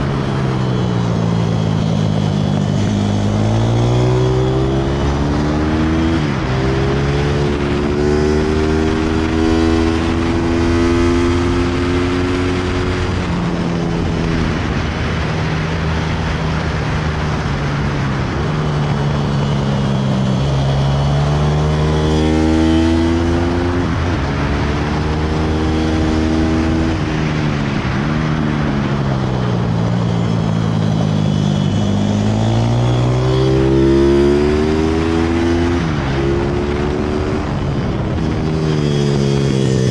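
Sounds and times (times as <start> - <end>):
motorbike engine revving: 0.0 - 39.9
wind noise: 0.0 - 39.9.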